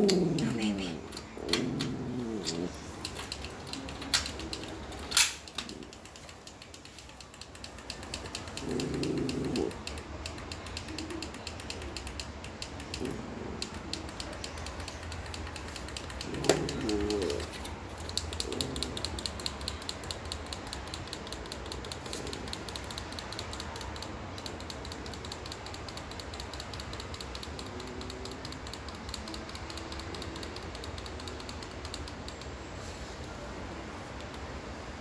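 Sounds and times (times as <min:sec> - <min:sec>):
rapid light clicks: 0:00.0 - 0:32.7.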